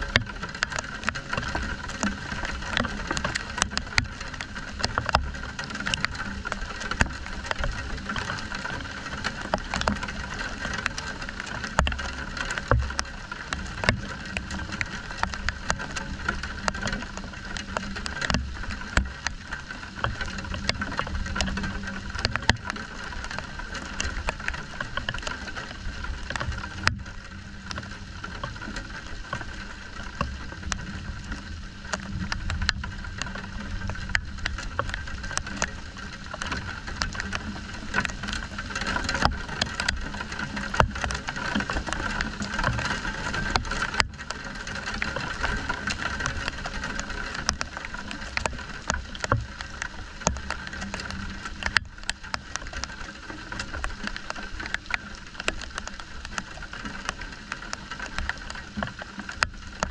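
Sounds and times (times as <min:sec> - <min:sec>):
raindrops striking near microphone: 0:00.0 - 0:59.9
steady rain falling: 0:00.0 - 0:59.9.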